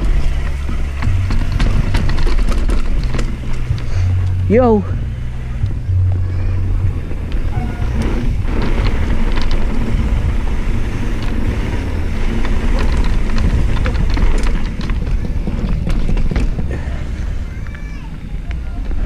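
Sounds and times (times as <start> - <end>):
bike tyre rumble: 0.0 - 19.0
wind buffeting microphone: 0.0 - 19.0.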